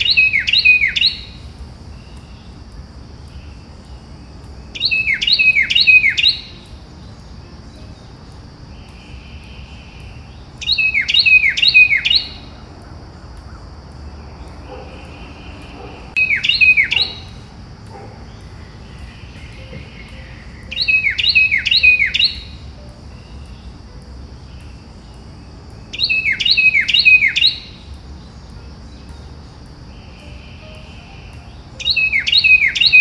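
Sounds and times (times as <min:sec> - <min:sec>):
bird singing falling notes: 0:00.0 - 0:33.0
faint steady hiss: 0:00.0 - 0:33.0.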